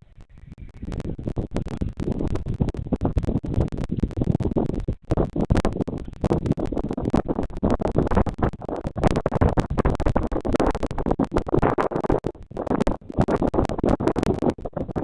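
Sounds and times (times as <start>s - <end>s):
scratchy rustling and crackling: 0.2s - 15.0s.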